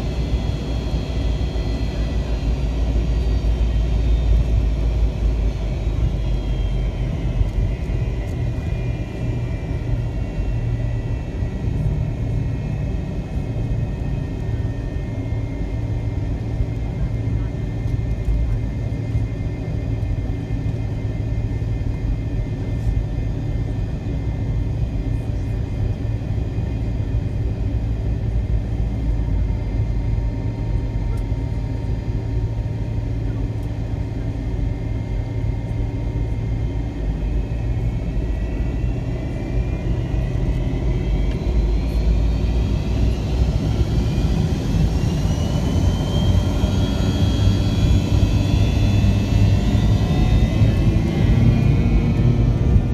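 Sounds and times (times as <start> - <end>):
jet engine whine: 0.0 - 52.9
jet engines rumbling: 0.0 - 52.9.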